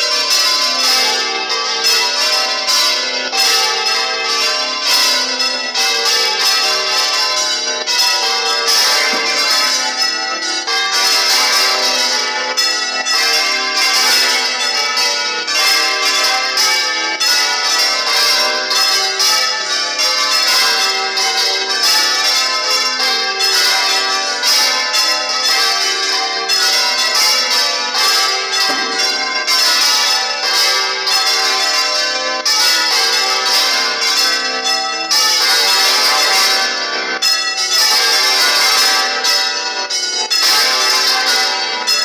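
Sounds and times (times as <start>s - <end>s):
church bells clanging: 0.0s - 42.0s.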